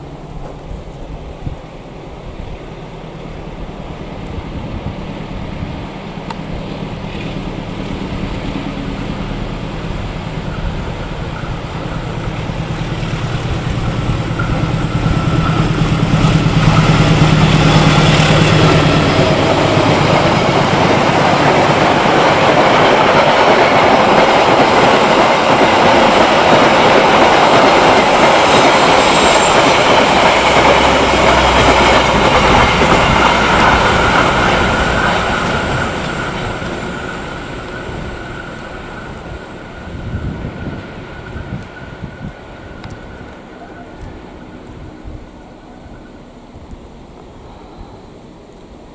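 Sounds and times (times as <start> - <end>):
carriages rolling on rails: 0.0 - 48.9
diesel locomotive engine hum: 0.0 - 48.9.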